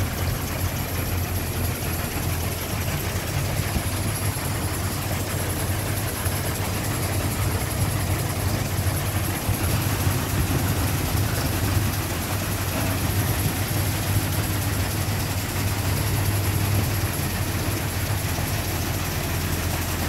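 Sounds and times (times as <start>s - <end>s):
blower fan machine running: 0.0s - 20.0s.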